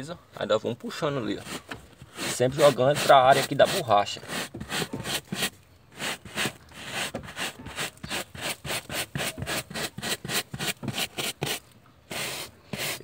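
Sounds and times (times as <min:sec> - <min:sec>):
brush scrubbing carpet and mat: 0:01.4 - 0:13.0.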